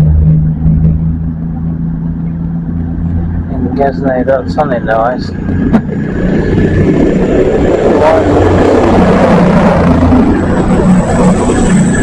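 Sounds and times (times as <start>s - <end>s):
diesel train engine hum: 0.0s - 12.0s
thin high whine: 0.0s - 12.0s
train rumble: 0.0s - 12.0s.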